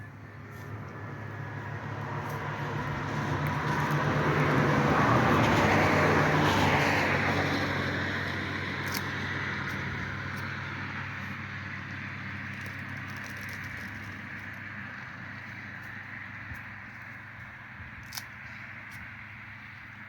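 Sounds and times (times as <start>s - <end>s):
motor vehicle passing: 0.0s - 20.0s.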